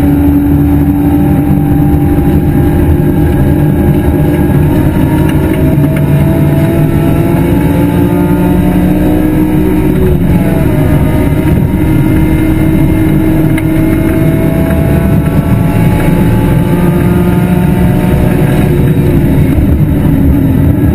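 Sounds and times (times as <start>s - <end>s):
racing engine at speed: 0.0s - 20.9s.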